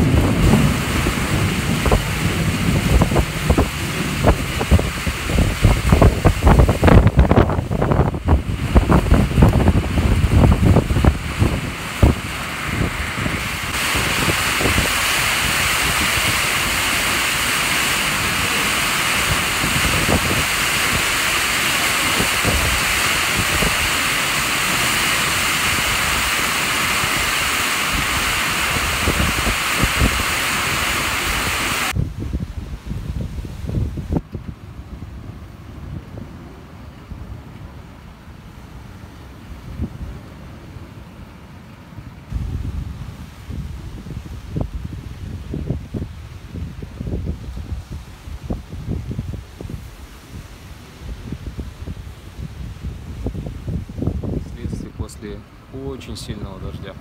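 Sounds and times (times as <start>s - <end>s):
heavy rain pouring: 0.0s - 40.8s, 41.6s - 57.0s
wind buffeting microphone: 0.0s - 41.0s, 42.3s - 57.0s.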